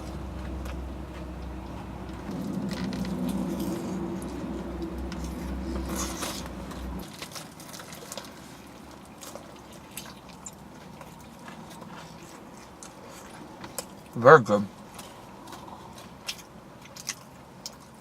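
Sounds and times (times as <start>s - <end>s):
low steady hum: 0.0s - 18.0s
wet chewing and smacking: 0.0s - 18.0s.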